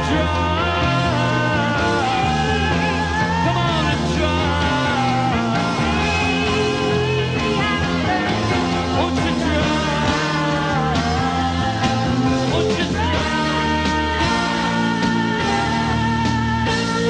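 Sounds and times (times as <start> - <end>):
electric guitar lines with bends: 0.0 - 17.0
rhythm section playing: 0.0 - 17.0.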